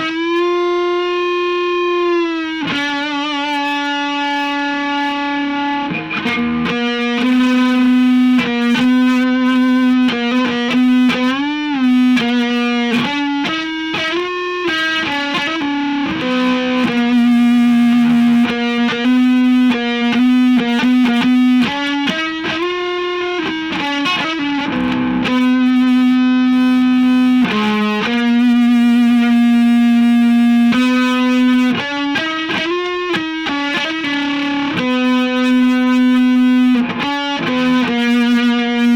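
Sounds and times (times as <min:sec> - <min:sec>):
distorted electric guitar lead: 0:00.0 - 0:38.9.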